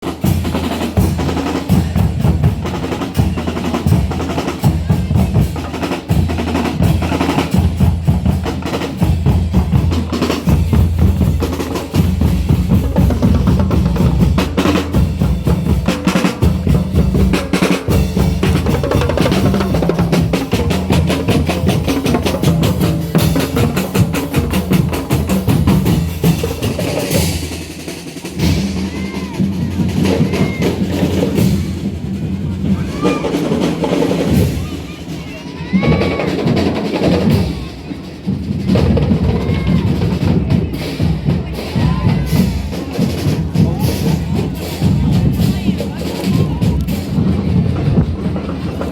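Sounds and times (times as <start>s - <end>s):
bass drums beating: 0.0s - 48.9s
snare drums with rolls: 0.0s - 48.9s.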